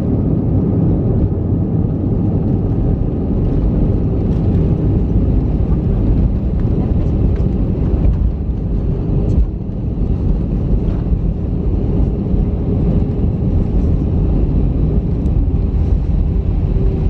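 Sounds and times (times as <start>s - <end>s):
jet engine and airflow rumble: 0.0s - 17.0s.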